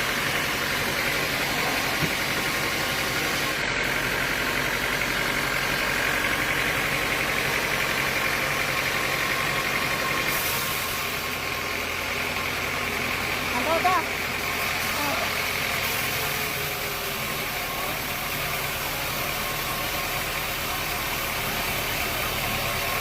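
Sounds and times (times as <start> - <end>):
sawmill machinery engine drone: 0.0 - 23.0.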